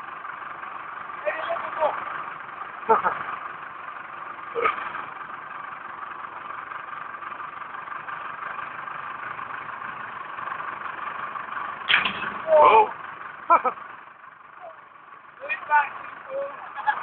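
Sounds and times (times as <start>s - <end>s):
digger engine running: 0.0s - 17.0s.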